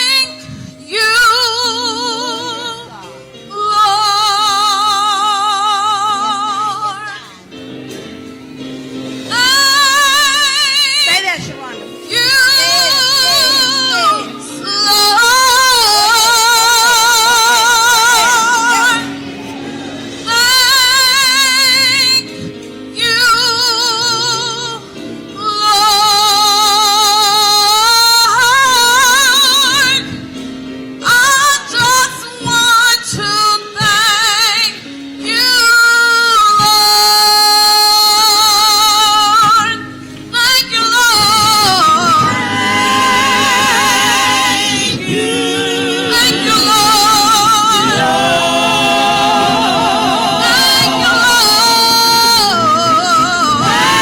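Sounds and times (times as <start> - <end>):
woman singing gospel with vibrato: 0.0 - 7.4, 9.3 - 30.2, 31.0 - 54.0
instrumental accompaniment: 0.0 - 54.0.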